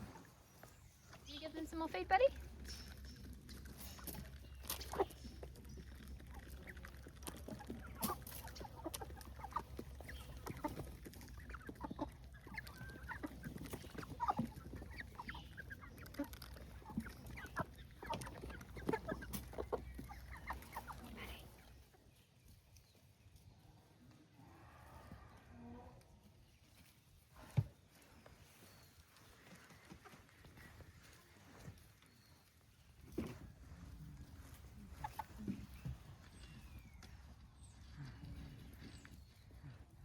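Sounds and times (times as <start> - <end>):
hens clucking: 0.0 - 22.6, 25.9 - 40.0.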